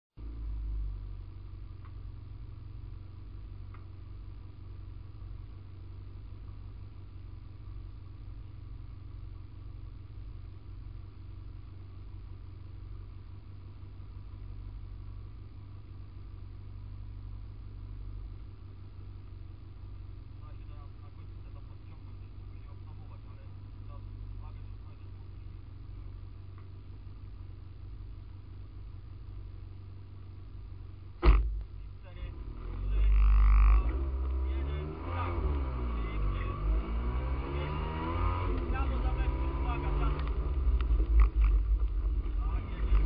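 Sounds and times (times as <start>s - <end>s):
car engine idling: 0.2s - 43.0s.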